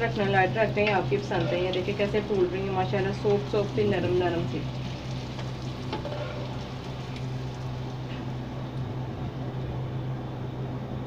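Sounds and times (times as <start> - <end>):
bread sizzling in hot oil: 0.0 - 9.0.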